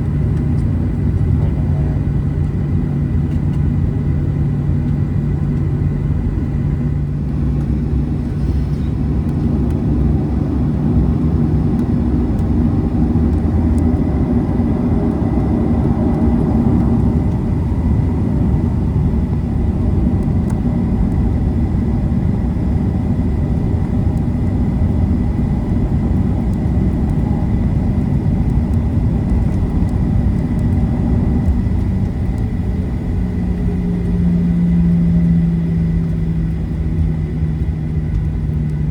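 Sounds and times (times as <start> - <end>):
jet engine cabin rumble: 0.0 - 38.9
low hum: 0.0 - 38.9.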